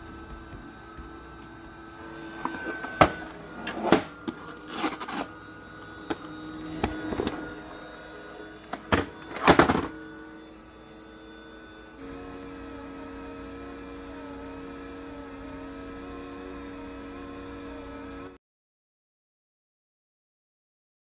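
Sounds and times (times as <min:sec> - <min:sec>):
robot vacuum motor whirring: 0:00.0 - 0:18.4.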